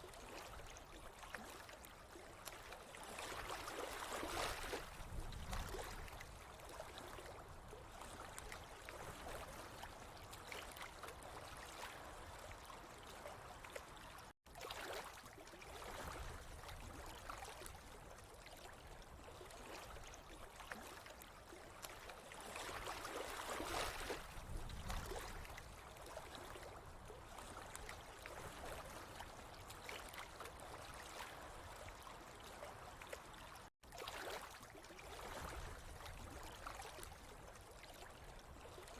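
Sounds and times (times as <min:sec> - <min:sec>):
water flowing and trickling: 0:00.0 - 0:38.9.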